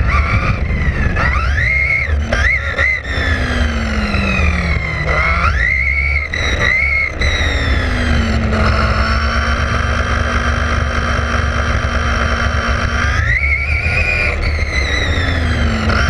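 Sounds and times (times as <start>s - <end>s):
electric motor whining: 0.0s - 16.0s
road and wind rumble: 0.0s - 16.0s.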